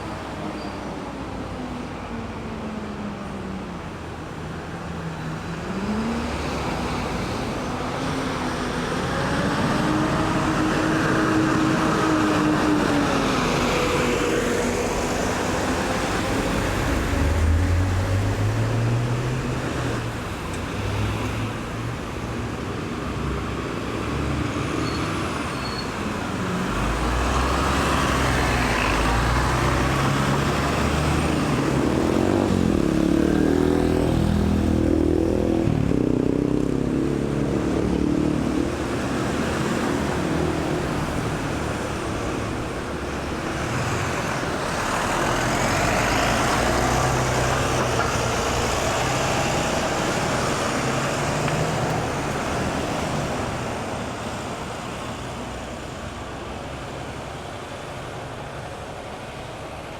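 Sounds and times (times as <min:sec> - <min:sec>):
cars passing: 0:03.8 - 0:59.9.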